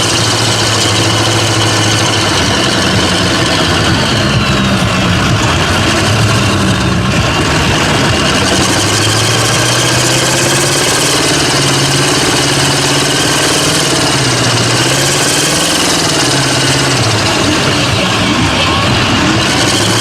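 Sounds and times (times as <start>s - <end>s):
truck engine running loudly: 0.0s - 20.0s.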